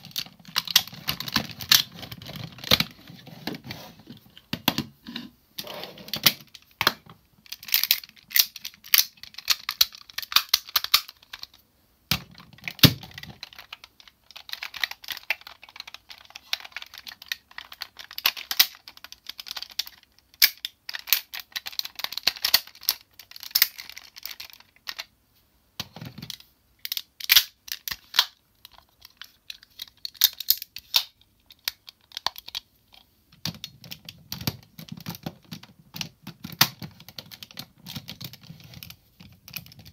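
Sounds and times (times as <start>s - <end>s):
plastic toy parts clicking together: 0.0s - 3.0s, 6.1s - 25.1s, 25.8s - 39.9s.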